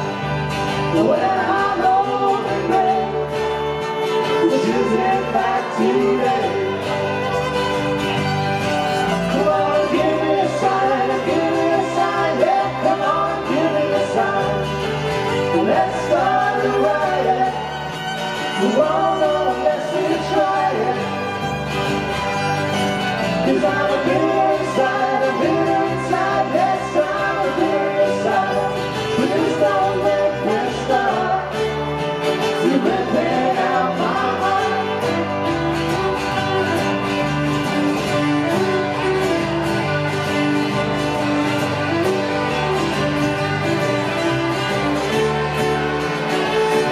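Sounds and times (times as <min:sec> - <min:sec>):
live band playing: 0:00.0 - 0:46.9.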